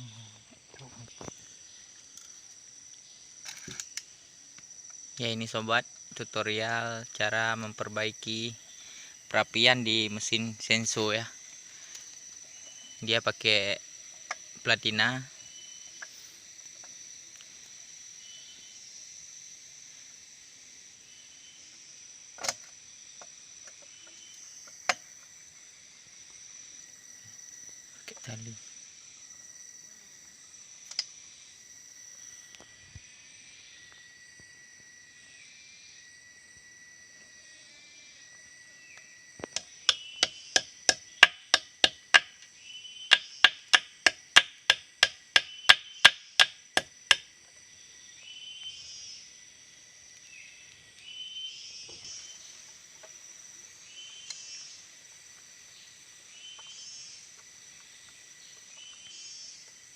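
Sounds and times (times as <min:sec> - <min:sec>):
insect chirping: 0:00.0 - 0:59.9.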